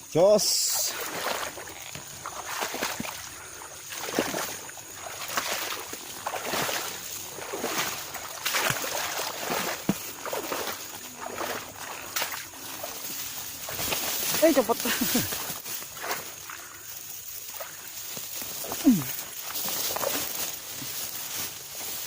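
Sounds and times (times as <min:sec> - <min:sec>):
footsteps wading through water: 0:00.6 - 0:22.0.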